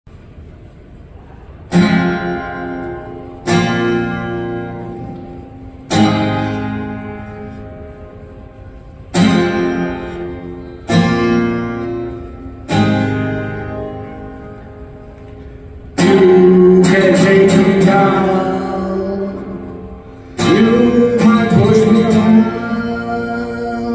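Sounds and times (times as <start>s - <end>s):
guitar strumming chords: 1.7s - 23.9s.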